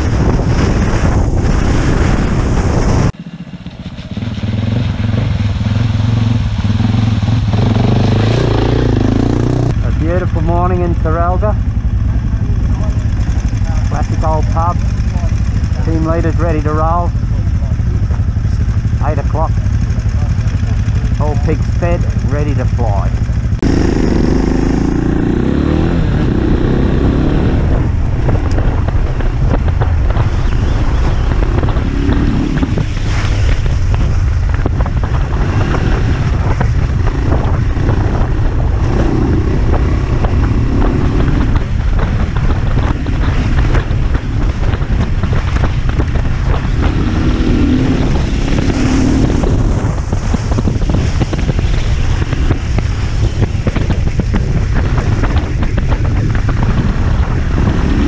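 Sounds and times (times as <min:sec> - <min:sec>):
motorcycle engine revving: 0:00.0 - 0:58.0
wind buffeting microphone: 0:00.0 - 0:58.0.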